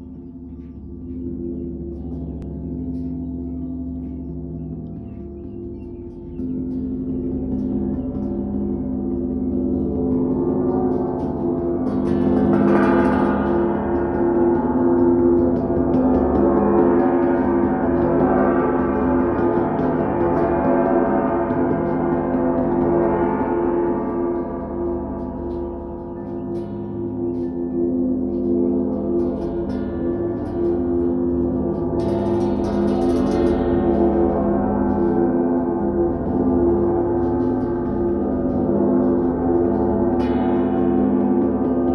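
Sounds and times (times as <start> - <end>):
metal sculpture ringing like a gong: 0.0 - 41.9.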